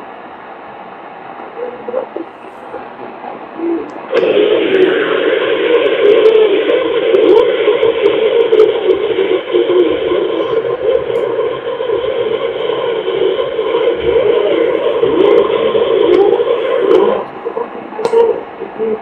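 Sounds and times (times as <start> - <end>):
muffled radio broadcast: 0.0 - 19.0
static hiss: 0.0 - 19.0.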